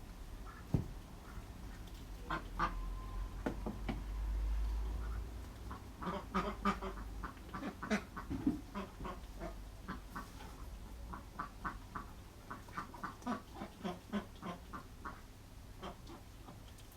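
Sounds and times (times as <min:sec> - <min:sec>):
ducks quacking: 0:00.4 - 0:03.0, 0:04.9 - 0:16.6.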